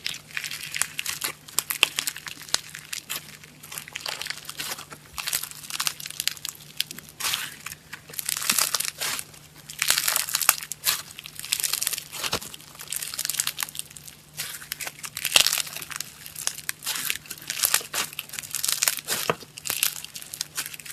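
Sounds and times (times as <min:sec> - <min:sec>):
foam slime crackling and popping: 0:00.0 - 0:20.9.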